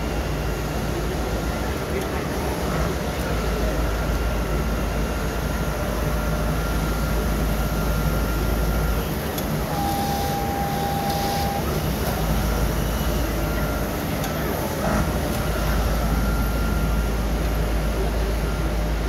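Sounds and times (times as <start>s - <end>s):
busy exhibition hall noise: 0.0s - 19.0s
cutting machine hum and rumble: 0.0s - 19.0s.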